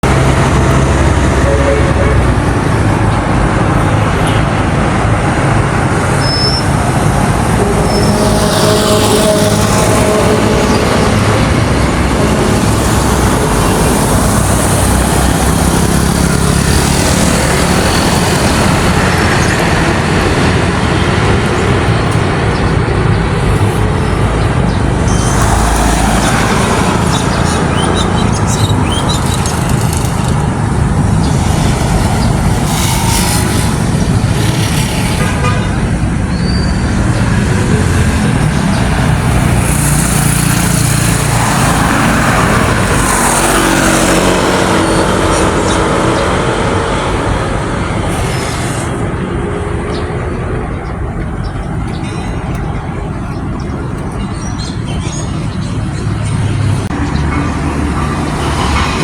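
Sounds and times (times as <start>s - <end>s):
road vehicle rumble: 0.0s - 59.0s
traffic noise: 0.0s - 59.0s.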